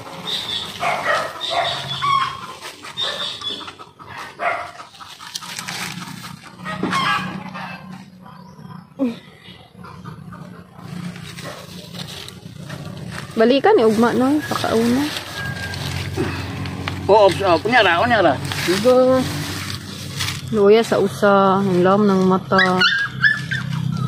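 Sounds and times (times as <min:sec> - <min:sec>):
puppies yelping and whining: 0:00.0 - 0:20.4, 0:22.5 - 0:24.0.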